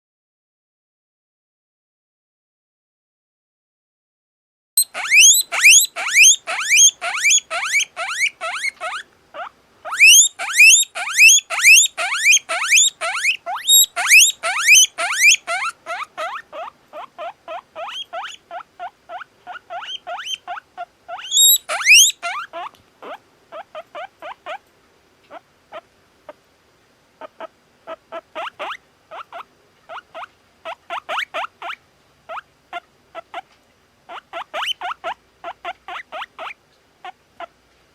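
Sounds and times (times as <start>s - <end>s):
guinea pig wheeking: 4.8s - 24.7s, 25.3s - 26.4s, 27.2s - 37.6s.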